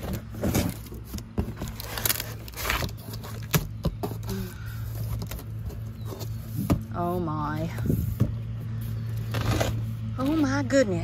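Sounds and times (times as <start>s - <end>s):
cardboard box being opened: 0.0s - 7.0s, 7.8s - 10.1s
steady low hum: 0.0s - 11.0s.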